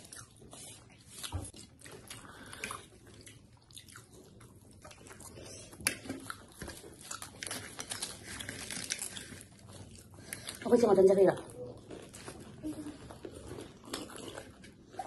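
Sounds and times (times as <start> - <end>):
people chewing and crunching: 0.0 - 15.0.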